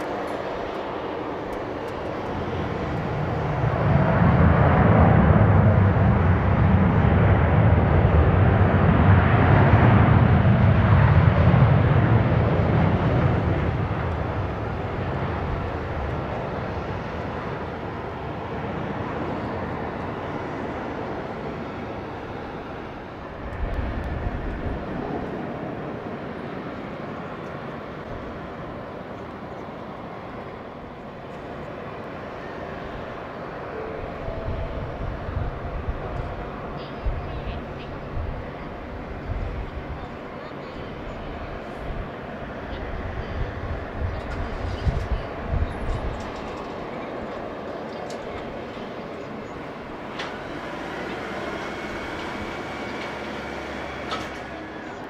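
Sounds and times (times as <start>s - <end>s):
jet engines reverse thrust rumble: 0.0s - 55.0s.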